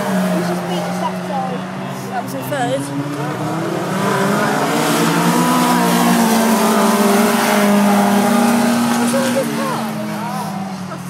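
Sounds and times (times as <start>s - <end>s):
racing car engines running hard: 0.0s - 11.0s.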